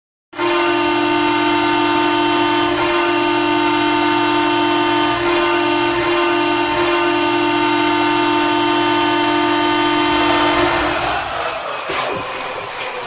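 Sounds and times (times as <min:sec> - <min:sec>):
goal horn blast: 0:00.4 - 0:13.0.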